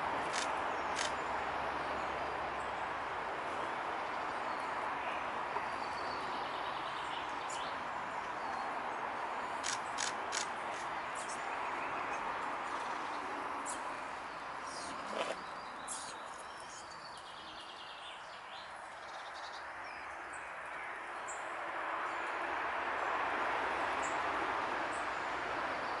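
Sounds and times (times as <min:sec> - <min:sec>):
songbirds chirping: 0:00.0 - 0:23.3.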